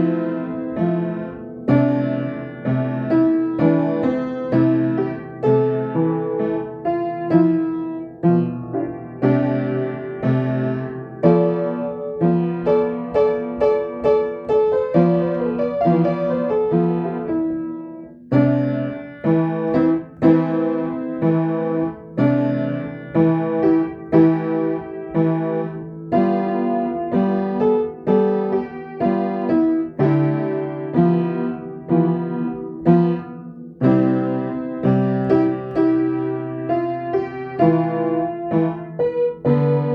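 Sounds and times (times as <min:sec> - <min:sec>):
solo piano melody: 0:00.0 - 0:39.9.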